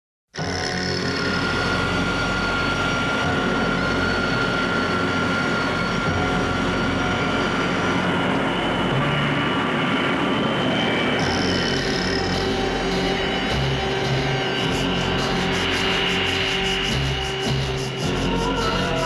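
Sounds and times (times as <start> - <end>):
high engine whine: 0.4 - 19.0
jet engines rushing: 1.3 - 19.0.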